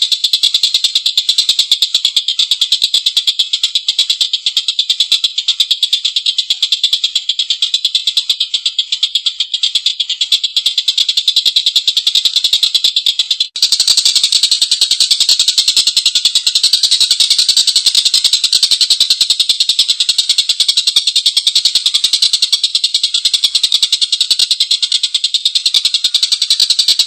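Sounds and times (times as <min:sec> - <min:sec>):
kingfisher cackling rattle: 0:03.2 - 0:27.0.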